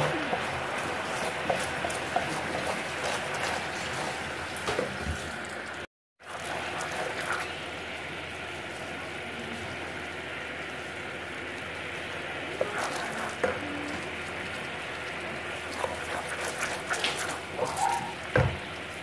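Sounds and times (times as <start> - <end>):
sugar syrup boiling: 0.0 - 19.0.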